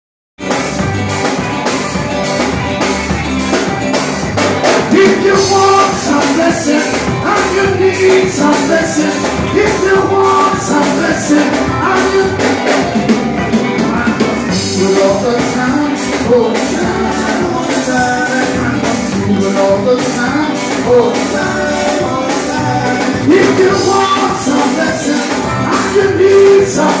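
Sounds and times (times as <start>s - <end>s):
live band playing instrumental: 0.4s - 27.0s.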